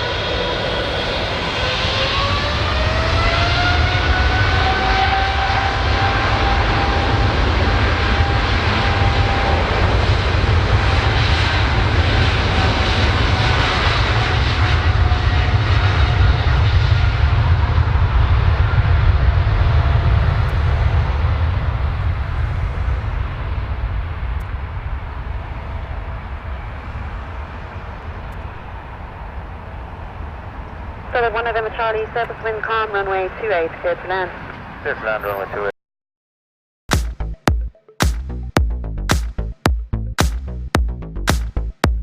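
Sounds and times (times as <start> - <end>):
jet engines roaring: 0.0 - 35.7.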